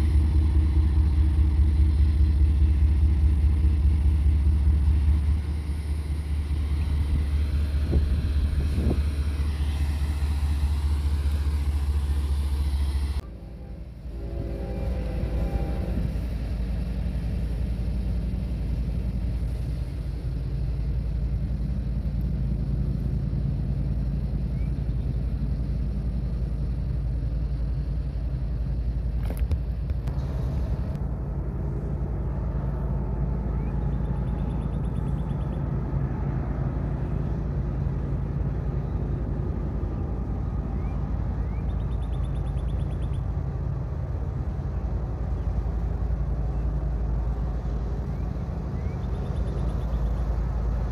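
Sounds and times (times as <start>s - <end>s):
diesel locomotive engines droning: 0.0s - 50.9s.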